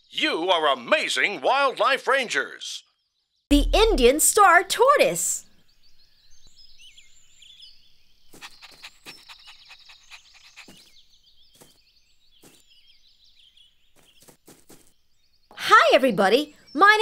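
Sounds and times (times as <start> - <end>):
small birds chirping: 2.4 - 17.0.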